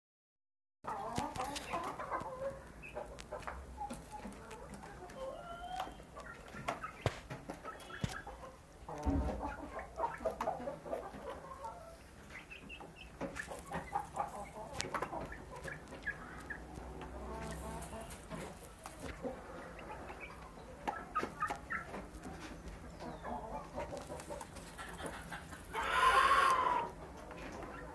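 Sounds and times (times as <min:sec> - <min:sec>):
chicks clucking and peeping: 0:00.9 - 0:27.9.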